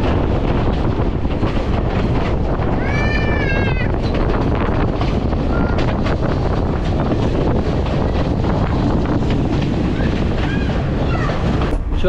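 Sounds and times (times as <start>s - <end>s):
moving train rumble and rattle: 0.0s - 12.0s
wind buffeting microphone: 0.0s - 12.0s.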